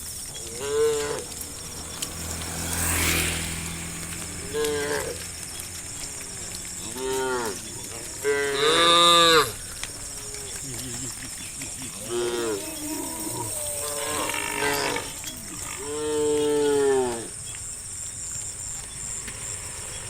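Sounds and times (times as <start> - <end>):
high insect drone: 0.0 - 20.0
cows mooing: 0.2 - 17.5.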